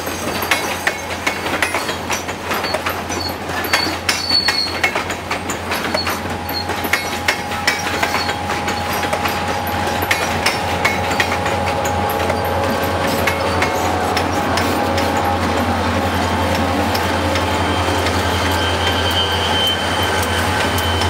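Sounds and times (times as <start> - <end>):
low train rumble: 0.0 - 21.0
train wheels clattering over rail joints: 0.0 - 21.0
high wheel squeal: 2.6 - 21.0.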